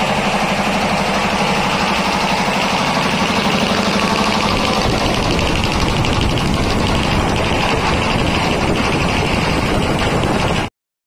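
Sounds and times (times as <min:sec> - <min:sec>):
air compressor running: 0:00.0 - 0:10.7.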